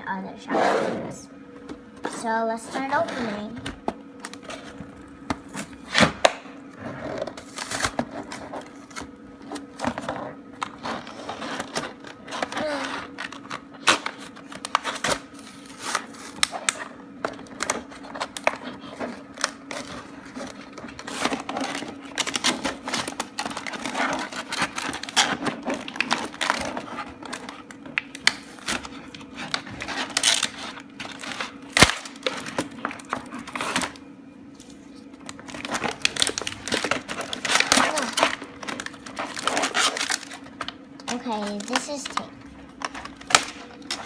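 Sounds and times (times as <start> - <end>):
plastic packaging crinkling: 7.1 - 44.0.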